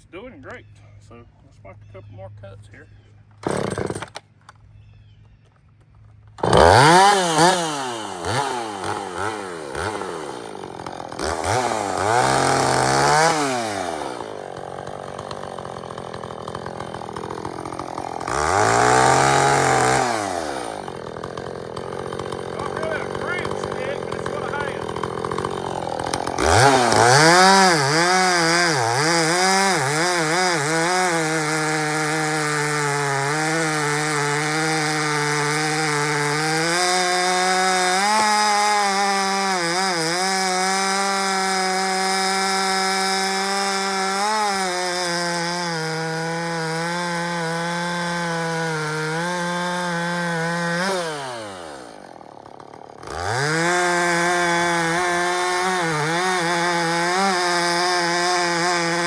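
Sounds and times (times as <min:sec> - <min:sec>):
chainsaw cutting wood: 0:03.4 - 0:04.5, 0:06.2 - 0:59.0.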